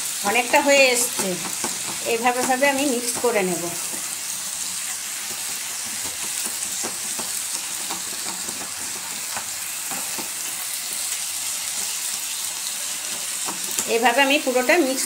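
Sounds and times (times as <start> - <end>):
vegetables sizzling in a pan: 0.0 - 15.0
spatula scraping and tapping pan: 0.6 - 11.0, 11.7 - 14.0.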